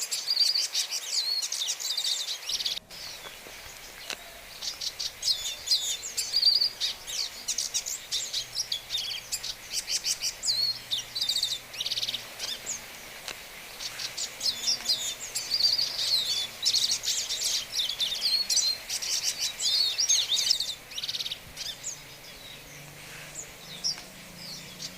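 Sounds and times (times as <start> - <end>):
bird twittering song: 0.0 - 24.9.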